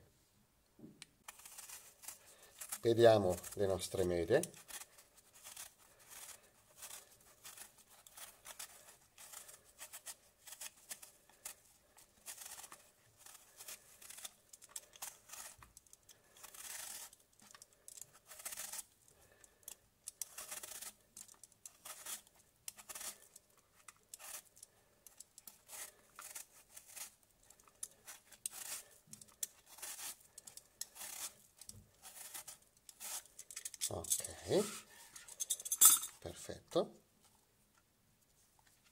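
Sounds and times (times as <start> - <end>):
peeler scraping apple skin: 1.2 - 35.4.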